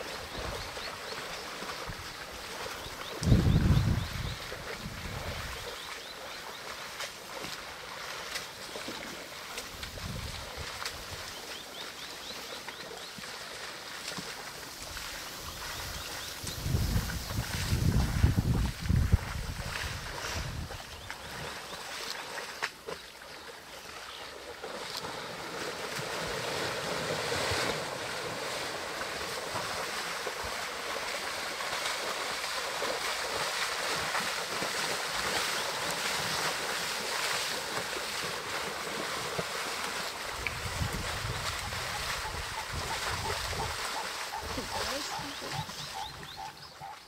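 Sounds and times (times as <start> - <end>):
water sloshing and splashing: 0.0 - 47.0.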